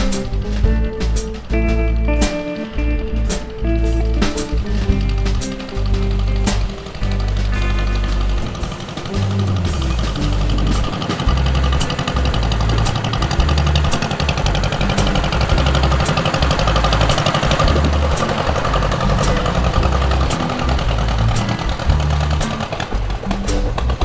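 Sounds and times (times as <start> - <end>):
music with bass and beat: 0.0 - 24.0
tractor engine running: 0.0 - 24.0.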